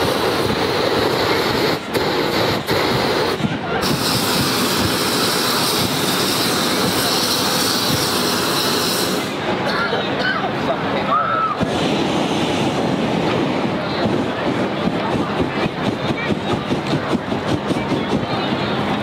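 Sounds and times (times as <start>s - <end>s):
propane burners firing: 0.0s - 9.5s, 11.5s - 19.0s.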